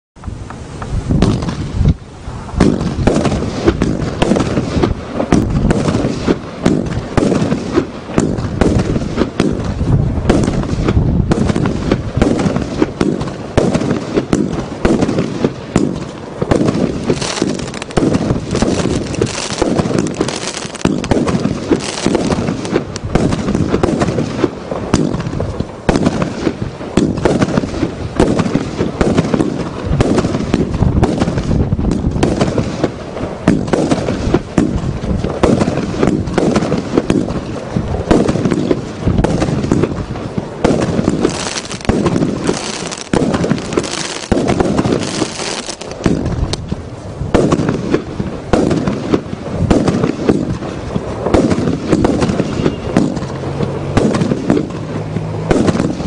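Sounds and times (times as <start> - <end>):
fireworks launching and bursting: 0.2 - 56.0.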